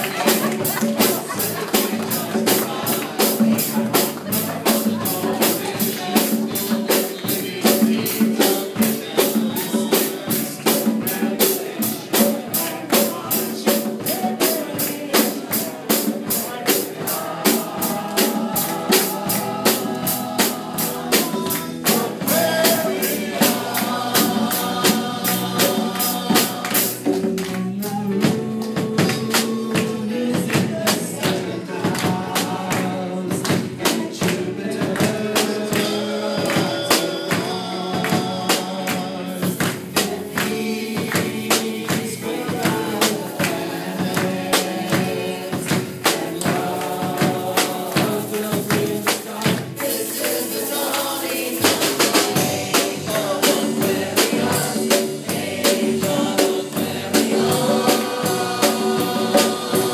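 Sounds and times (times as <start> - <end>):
congas: 0.0 - 59.9
drum kit: 0.0 - 59.9
electric guitar: 0.0 - 59.9
people singing: 0.0 - 59.9.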